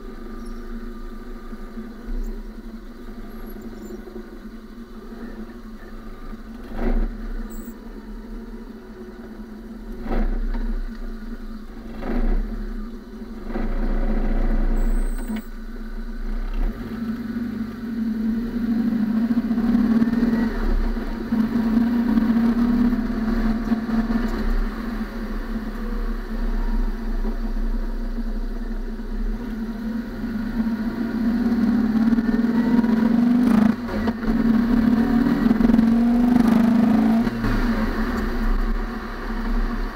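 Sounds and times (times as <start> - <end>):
tyre and road noise: 0.0 - 39.9.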